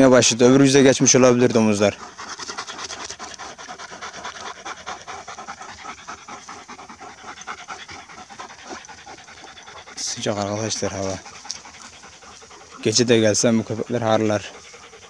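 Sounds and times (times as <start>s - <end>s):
dog panting quickly: 0.0s - 15.0s.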